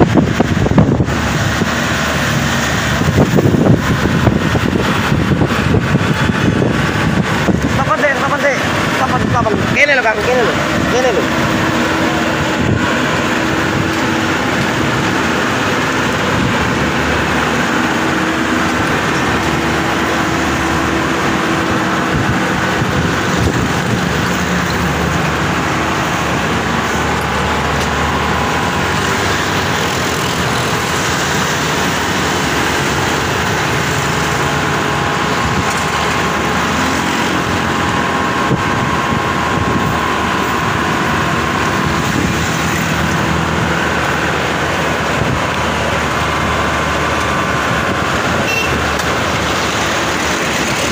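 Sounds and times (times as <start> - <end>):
combine harvester engine running: 0.0 - 50.9
steady whine: 0.0 - 50.9.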